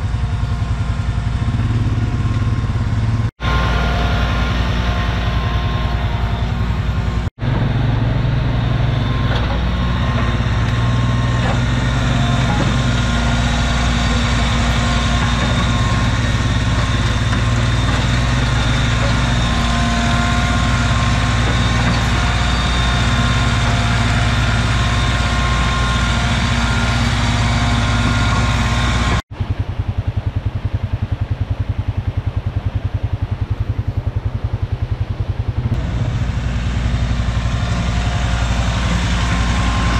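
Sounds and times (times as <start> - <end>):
pulsing engine idle: 0.0 - 39.9
tractor engine under load: 0.0 - 39.9.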